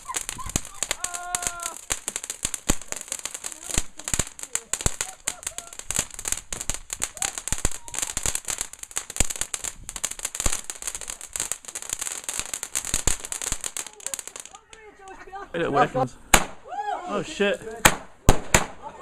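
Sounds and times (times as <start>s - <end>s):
fireworks crackling and popping: 0.0s - 16.7s, 17.3s - 19.0s.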